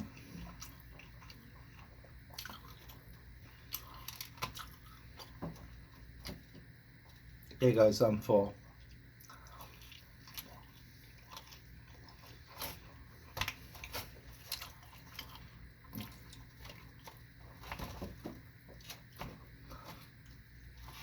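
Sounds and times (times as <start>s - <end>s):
person chewing food: 0.0s - 7.6s, 8.6s - 21.0s.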